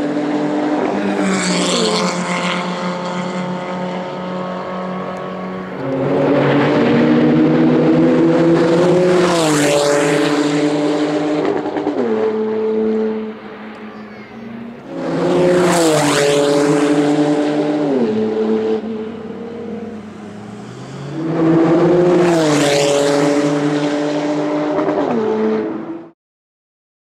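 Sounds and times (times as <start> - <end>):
race cars passing at speed: 0.0 - 26.2.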